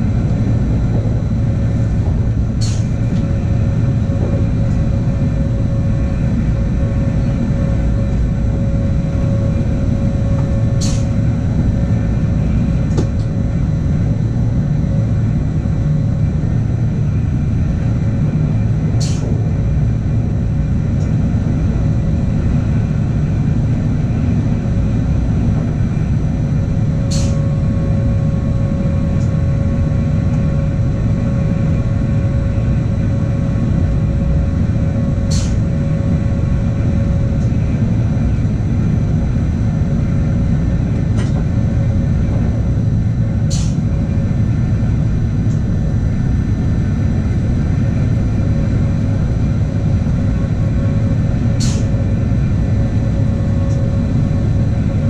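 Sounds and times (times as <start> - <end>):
train running low rumble: 0.0 - 55.0.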